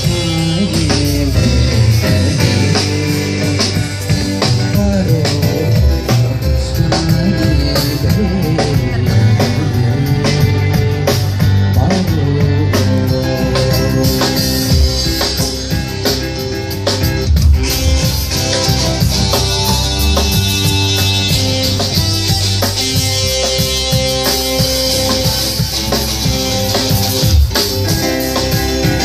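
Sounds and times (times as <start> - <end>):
drum kit: 0.0 - 29.0
electric guitar: 0.0 - 29.0.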